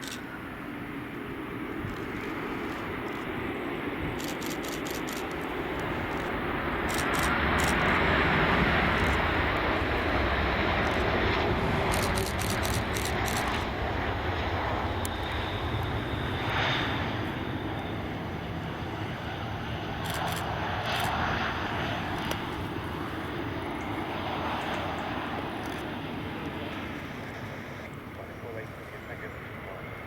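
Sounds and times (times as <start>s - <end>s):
jet airliner passing: 0.0s - 30.0s.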